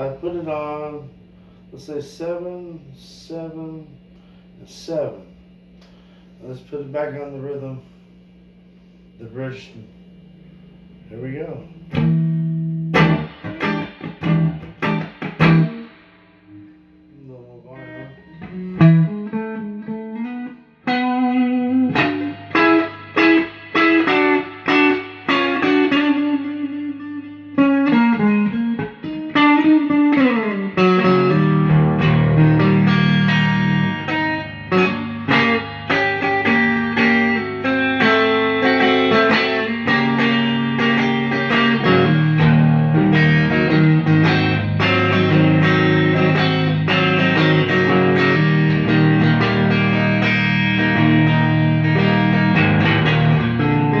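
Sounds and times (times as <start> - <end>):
clean electric guitar: 0.0 - 54.0.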